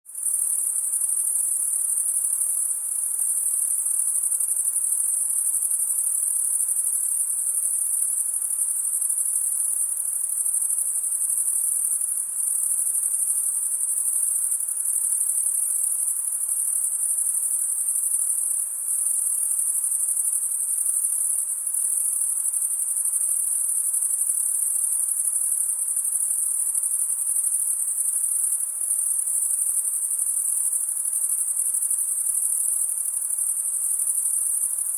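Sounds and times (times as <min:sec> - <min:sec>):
faint background hiss: 0:00.1 - 0:34.9
crickets trilling: 0:00.2 - 0:34.9.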